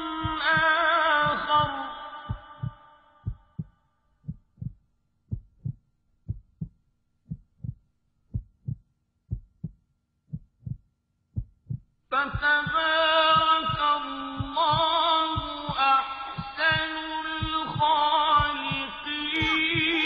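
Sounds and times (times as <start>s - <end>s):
heartbeat thumps: 0.2s - 20.0s.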